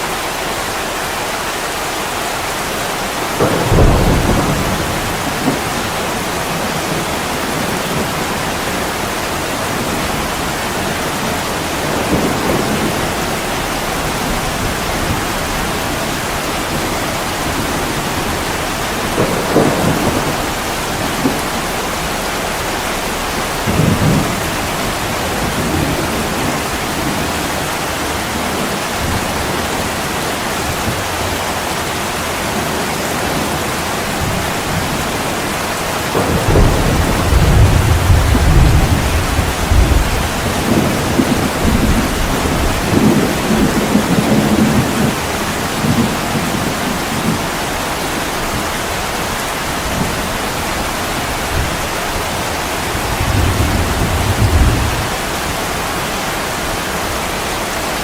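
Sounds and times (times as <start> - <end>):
heavy rain on a window: 0.0 - 58.0
thunder rumbling: 2.5 - 58.0.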